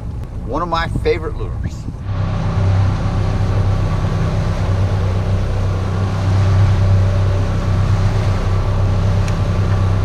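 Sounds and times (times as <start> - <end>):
rush of wind and wake: 0.0 - 10.0
outboard motor humming: 1.3 - 10.0.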